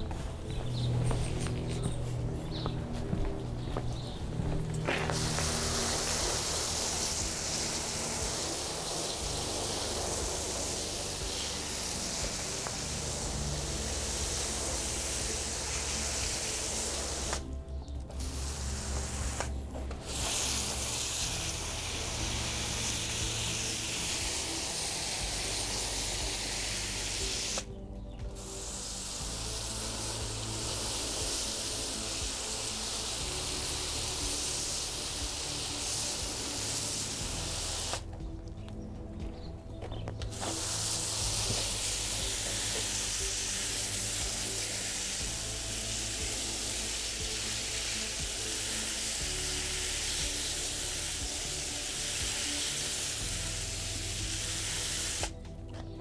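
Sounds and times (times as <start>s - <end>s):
garden hose spraying water: 0.0s - 56.0s
soft background music: 0.0s - 56.0s.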